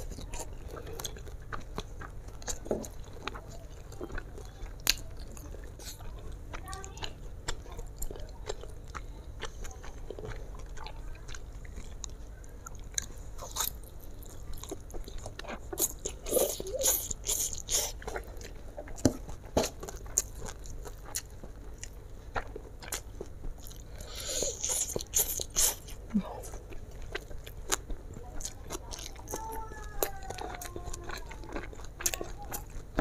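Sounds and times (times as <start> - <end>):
wet chewing and smacking: 0.0 - 33.0.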